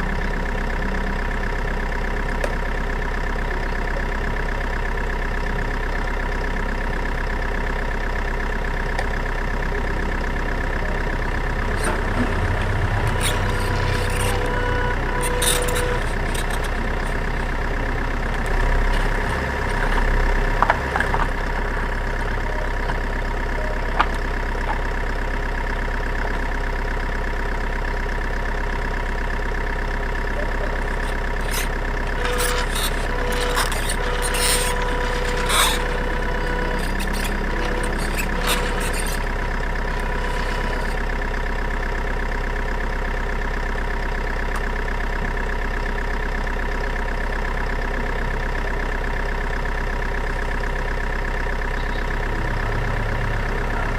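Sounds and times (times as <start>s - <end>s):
truck engine idling: 0.0s - 53.9s.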